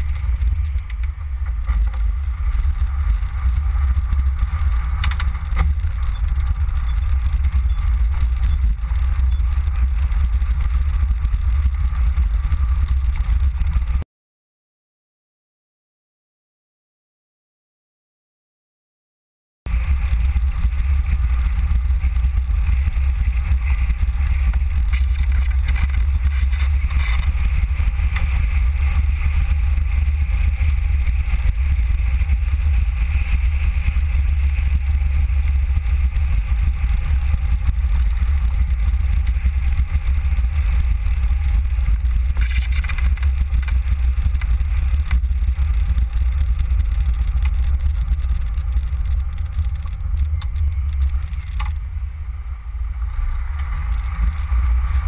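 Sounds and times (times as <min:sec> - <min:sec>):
wind and road rumble: 0:00.0 - 0:14.0, 0:19.7 - 0:55.0.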